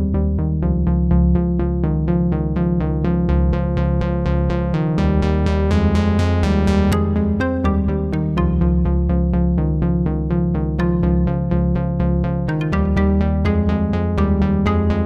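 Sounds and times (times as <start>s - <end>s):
electronic background music: 0.0s - 15.0s.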